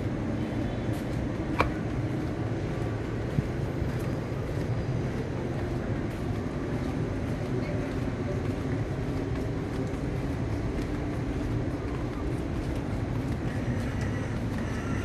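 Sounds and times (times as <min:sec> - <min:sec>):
city background rumble: 0:00.0 - 0:15.0
faint engine hum: 0:00.0 - 0:15.0.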